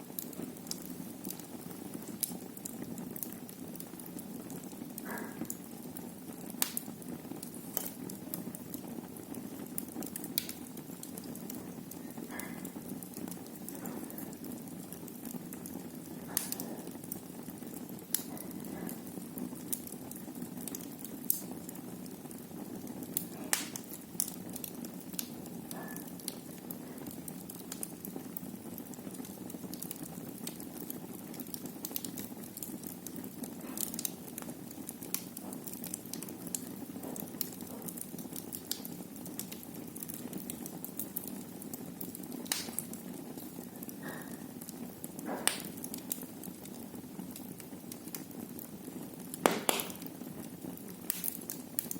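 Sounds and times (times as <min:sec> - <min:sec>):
fire pops and crackles: 0:00.0 - 0:51.9
flames rushing: 0:00.0 - 0:51.9.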